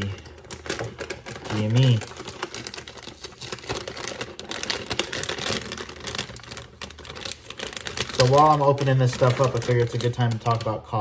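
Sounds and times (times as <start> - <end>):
packaging crinkling and clicking: 0.0 - 11.0.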